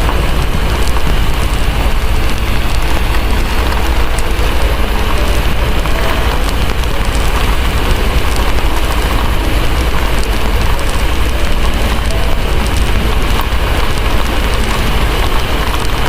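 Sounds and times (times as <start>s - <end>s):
fireplace crackling: 0.0s - 16.0s
heavy rain hissing: 0.0s - 16.0s
low rumble: 0.0s - 16.0s.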